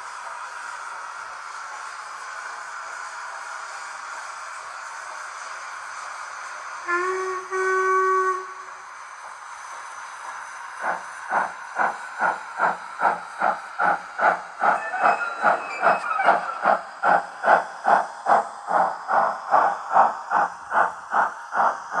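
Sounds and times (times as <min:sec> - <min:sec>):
model train steam chuffs: 0:00.0 - 0:22.0
steady steam hiss: 0:00.0 - 0:22.0.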